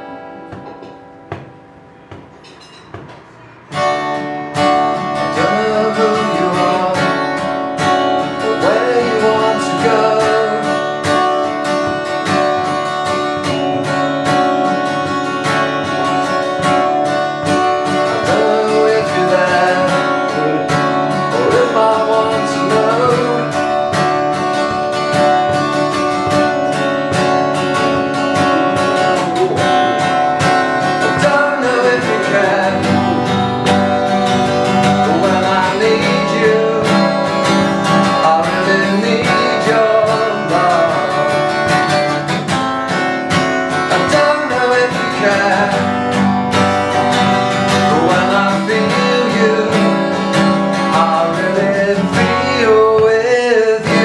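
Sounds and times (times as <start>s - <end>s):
acoustic guitar strumming: 0.0s - 54.0s
man singing: 4.2s - 43.0s, 43.7s - 54.0s.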